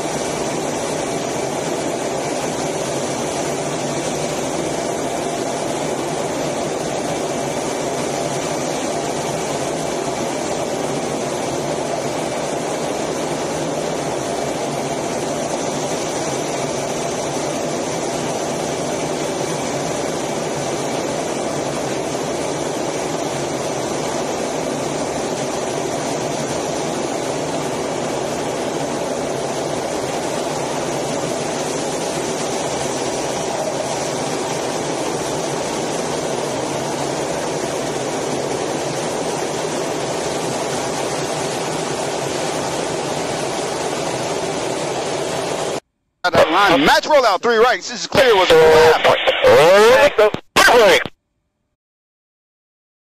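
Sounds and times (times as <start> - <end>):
jet engine running: 0.0 - 51.1.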